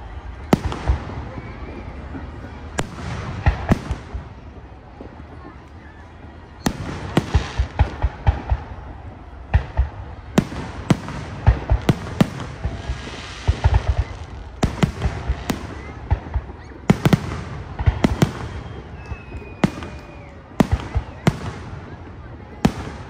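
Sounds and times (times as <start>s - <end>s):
fireworks bangs and booms: 0.0s - 23.0s
fireworks crackling: 0.0s - 23.0s.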